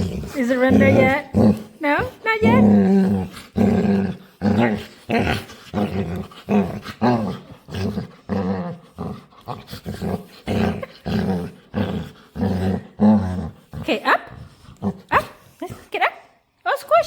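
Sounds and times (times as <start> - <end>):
dog making growl-like noises: 0.0 - 15.8.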